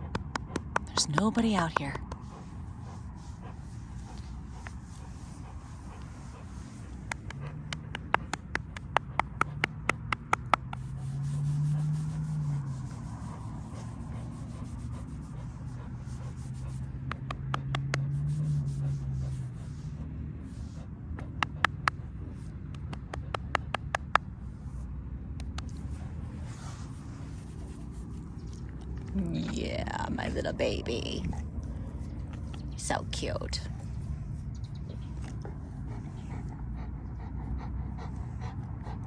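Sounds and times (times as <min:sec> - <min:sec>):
close rubbing and scraping: 0:00.0 - 0:36.7.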